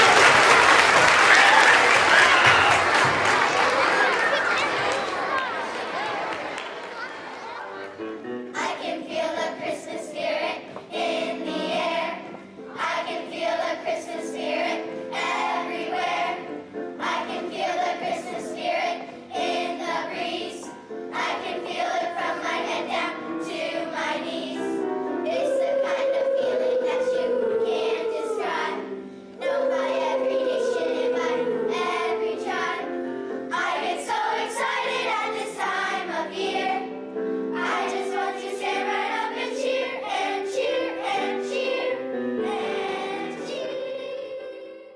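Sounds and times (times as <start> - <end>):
children's choir singing: 0.0 - 44.9
musical accompaniment: 7.4 - 44.9.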